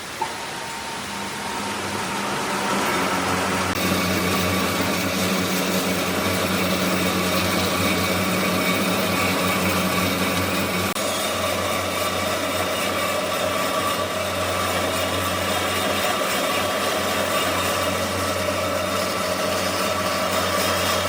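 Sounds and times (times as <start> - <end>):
woodworking machinery running: 0.0 - 21.0.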